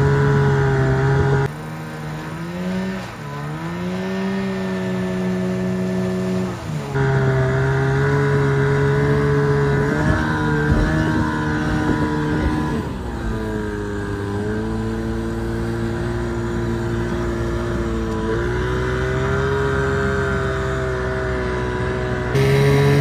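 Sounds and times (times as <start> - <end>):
outboard motor boat engine: 0.0 - 23.0.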